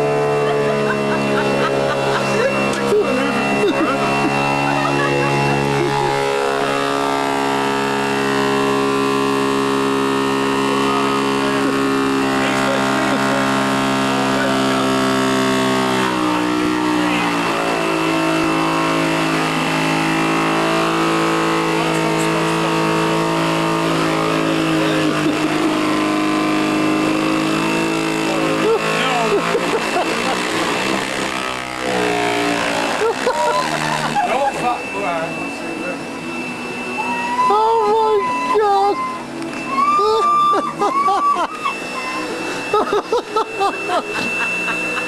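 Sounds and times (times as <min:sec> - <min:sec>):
vacuum cleaner motor whine: 0:00.0 - 0:45.0.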